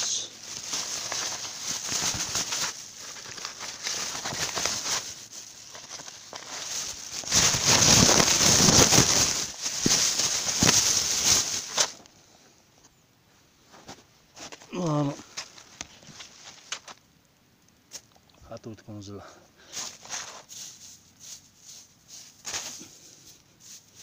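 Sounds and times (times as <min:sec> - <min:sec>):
plastic bag rustling: 0:00.0 - 0:12.0, 0:13.7 - 0:17.0, 0:19.6 - 0:24.0.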